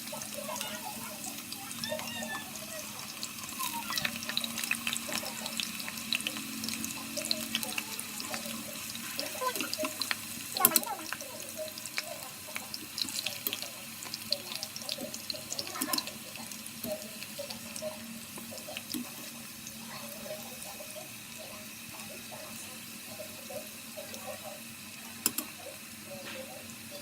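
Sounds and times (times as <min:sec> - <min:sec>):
potatoes deep-frying in oil: 0:00.0 - 0:27.0.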